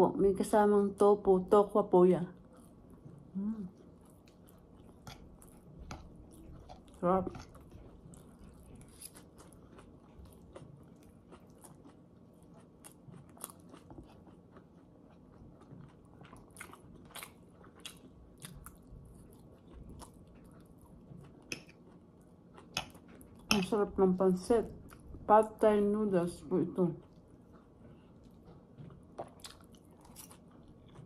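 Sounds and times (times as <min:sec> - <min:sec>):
person chewing: 0:02.4 - 0:23.6, 0:27.0 - 0:31.0.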